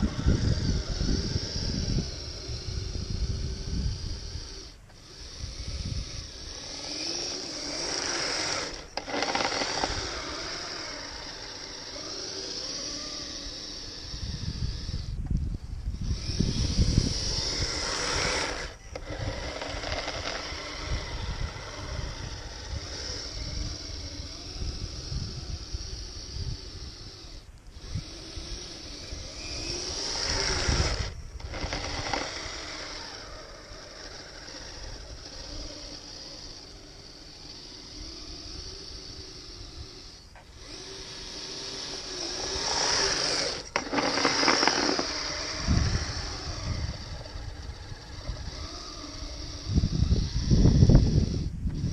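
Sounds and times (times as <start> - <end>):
electric motor and gearbox whining: 0.0 - 51.9.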